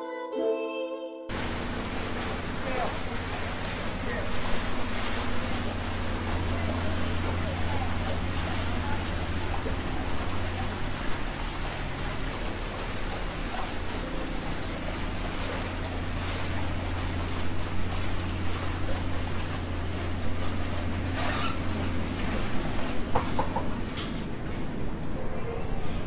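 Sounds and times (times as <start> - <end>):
boat engine humming: 1.3 - 26.0
water churning against hull: 1.3 - 26.0.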